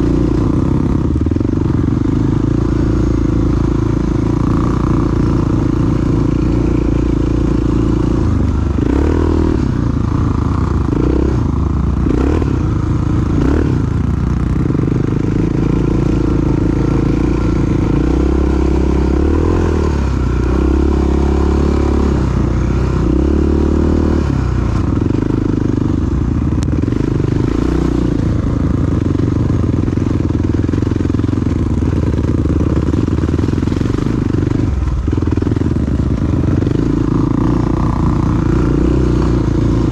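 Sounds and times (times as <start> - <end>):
clatter: 0.0 - 39.9
motorcycle engine running: 0.0 - 39.9.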